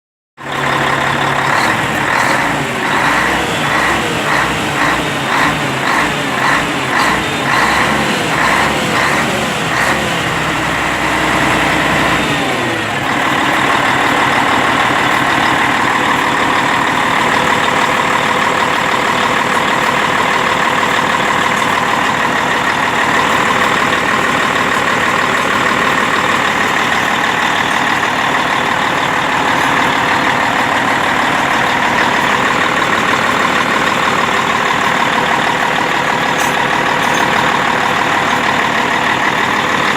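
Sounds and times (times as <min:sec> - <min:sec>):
truck diesel engine running: 0:00.4 - 0:39.9.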